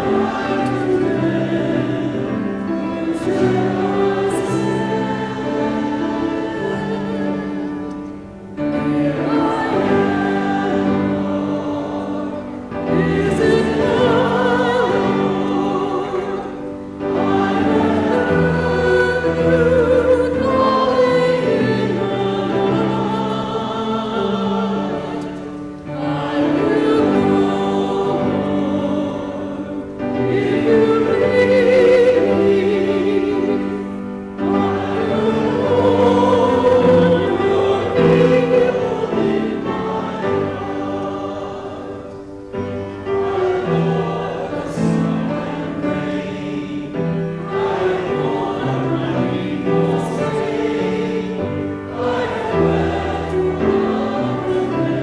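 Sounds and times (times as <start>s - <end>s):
congregation singing: 0.0s - 55.0s.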